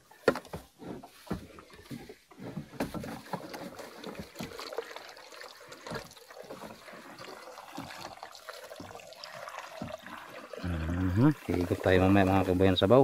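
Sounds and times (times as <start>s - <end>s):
water trickling and splashing: 1.1s - 13.0s.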